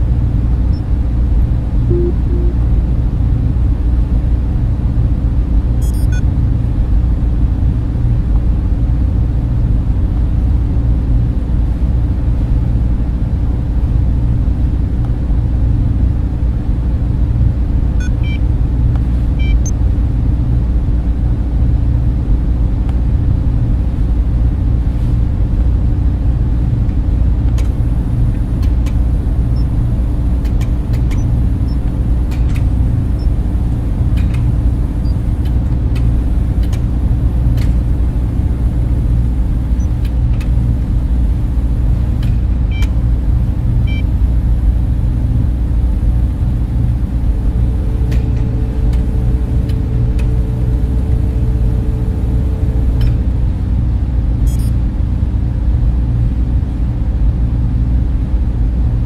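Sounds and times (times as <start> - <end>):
cooling fans running: 0.0 - 59.0.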